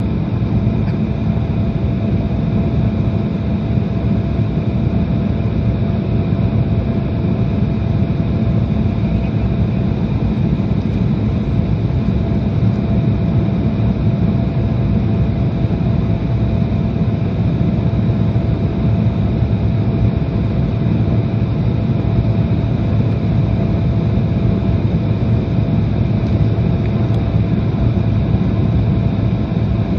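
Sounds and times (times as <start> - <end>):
airliner engine drone: 0.0 - 29.9.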